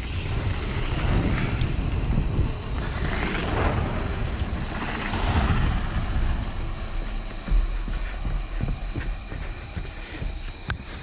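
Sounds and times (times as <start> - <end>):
bike tyres rolling over gravel: 0.0 - 11.0
wind buffeting microphone: 0.0 - 11.0.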